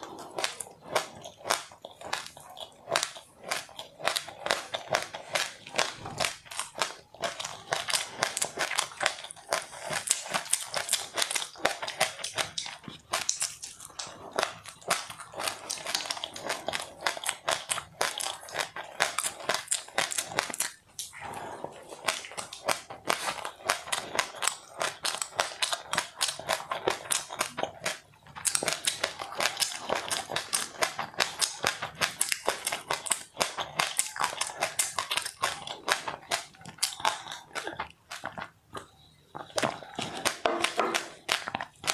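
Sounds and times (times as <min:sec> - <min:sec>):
crunchy chewing of seeds: 0:00.0 - 0:41.9.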